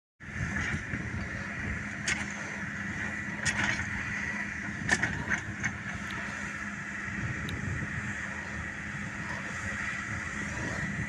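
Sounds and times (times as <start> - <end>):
diesel engine running: 0.2 - 11.0.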